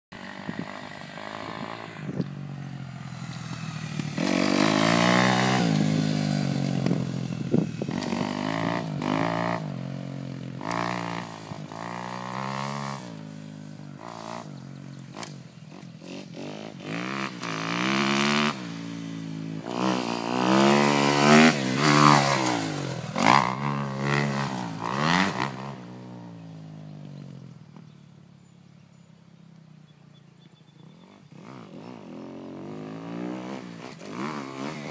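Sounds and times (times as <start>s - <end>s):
motocross bike engine revving: 0.2s - 27.9s, 30.7s - 34.9s.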